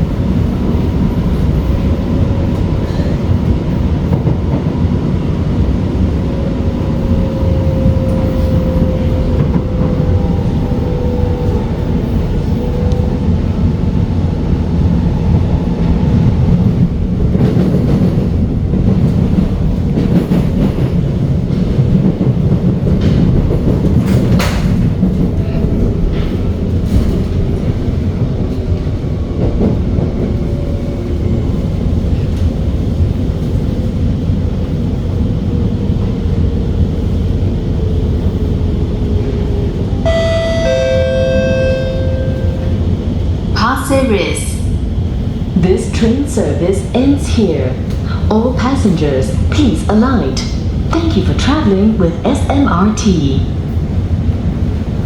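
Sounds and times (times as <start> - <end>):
rumble of wheels on rail: 0.0 - 55.0.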